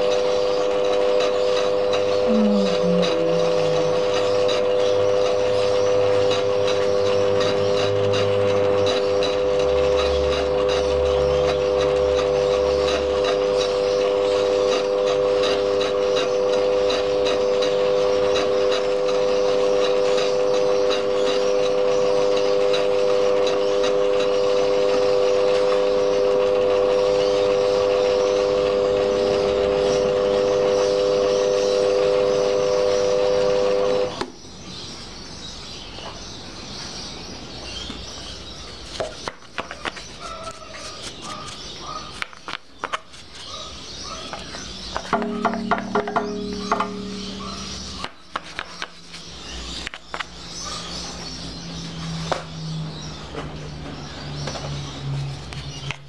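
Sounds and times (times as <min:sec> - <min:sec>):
lathe whining: 0:00.0 - 0:34.3, 0:43.8 - 0:55.2.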